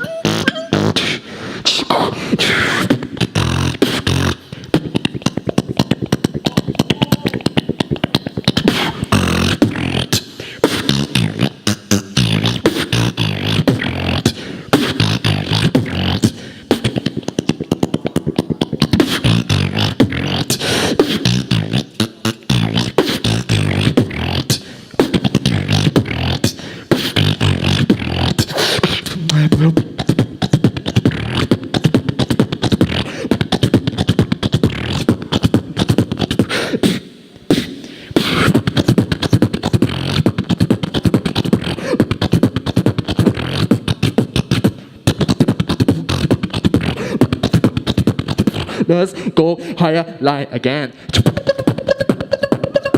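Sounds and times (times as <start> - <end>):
human beatboxing: 0.0 - 52.9.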